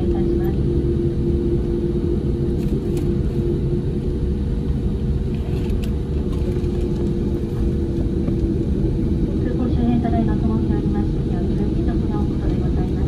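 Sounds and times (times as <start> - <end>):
aircraft cabin rumble: 0.0 - 13.0
constant hum: 0.0 - 13.0.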